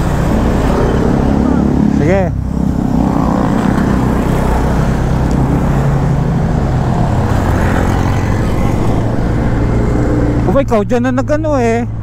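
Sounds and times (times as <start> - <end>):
motorcycle engine: 0.0 - 10.5
road noise: 0.0 - 12.0.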